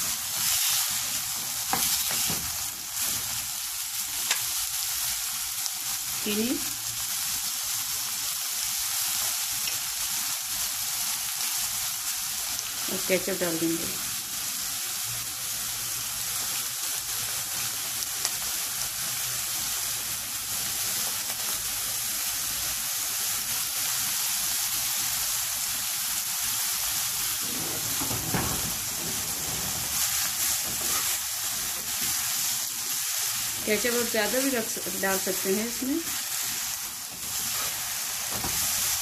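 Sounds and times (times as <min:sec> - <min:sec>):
food sizzling in oil: 0:00.0 - 0:39.0.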